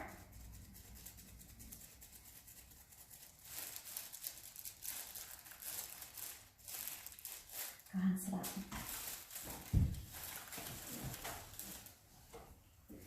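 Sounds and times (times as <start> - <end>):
faint rustling and crinkling: 0.0 - 13.0.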